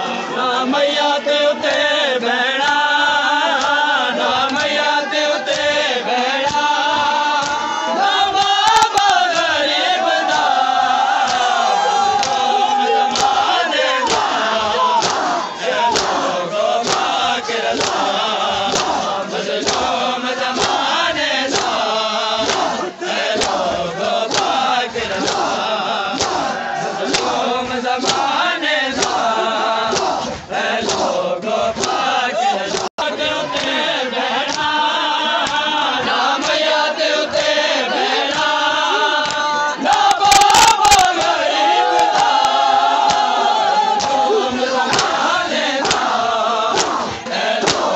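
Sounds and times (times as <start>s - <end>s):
men chanting together: 0.0s - 47.9s.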